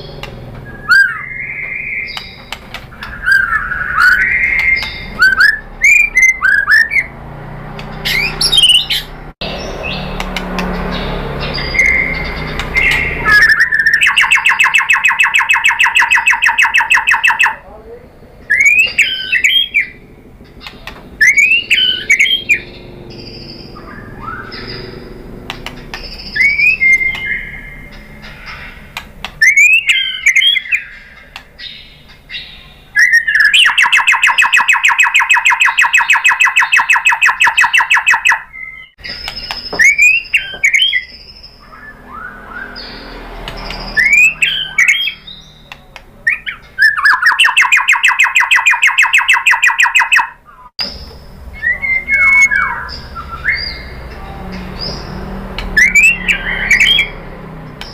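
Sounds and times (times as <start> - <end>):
bird whistled phrases: 0.0 - 7.1, 8.1 - 9.1, 11.4 - 17.7, 18.5 - 20.0, 21.2 - 25.0, 26.0 - 28.7, 29.4 - 50.7, 51.5 - 54.0, 55.7 - 57.2.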